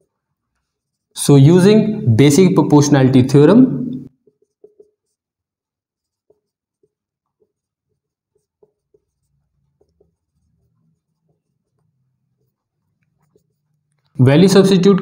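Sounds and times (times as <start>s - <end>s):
marker pen writing on whiteboard: 0.0s - 15.0s.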